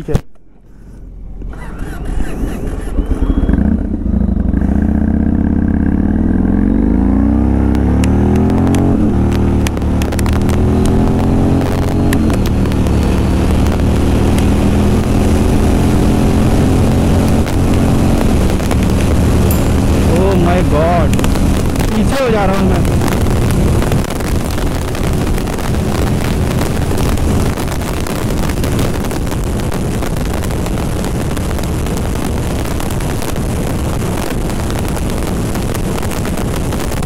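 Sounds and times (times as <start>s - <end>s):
motorcycle engine accelerating: 1.2s - 37.0s.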